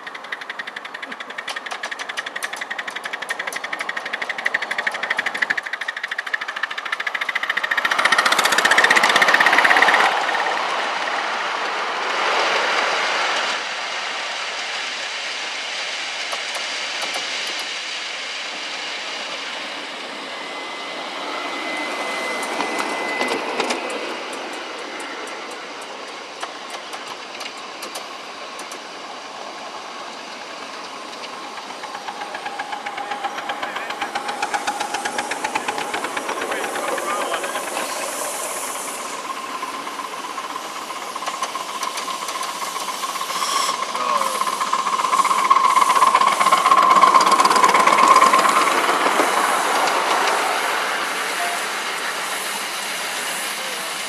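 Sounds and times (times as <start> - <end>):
wheels clicking on rails: 0.0 - 20.2, 20.9 - 54.0
steam locomotive exhaust beats: 0.0 - 54.0.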